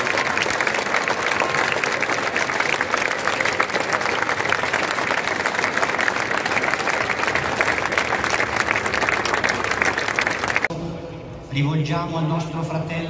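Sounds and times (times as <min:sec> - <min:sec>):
crowd applauding: 0:00.0 - 0:10.7.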